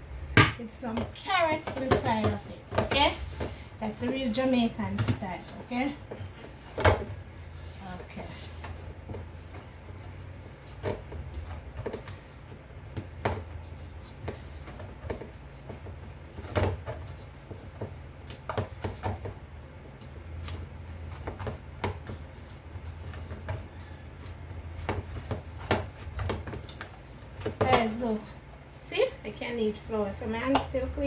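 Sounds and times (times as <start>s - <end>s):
dough kneaded by hand in bowl: 0.0s - 31.0s
steady low hum: 0.0s - 31.0s.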